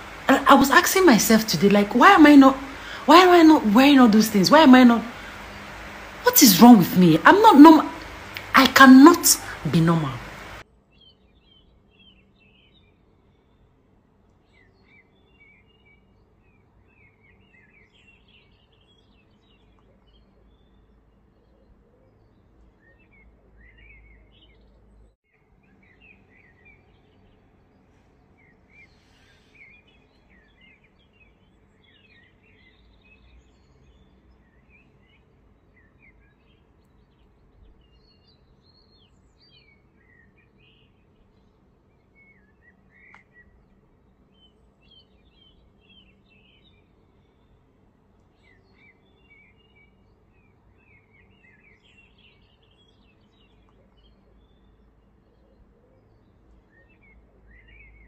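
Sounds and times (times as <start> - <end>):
faint birds chirping: 0.0 - 58.0
low steady background noise: 0.0 - 58.0.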